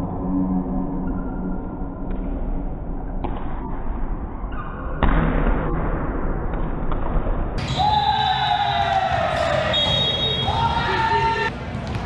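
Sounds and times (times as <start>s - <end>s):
echoing gym hall noise: 0.0s - 12.0s.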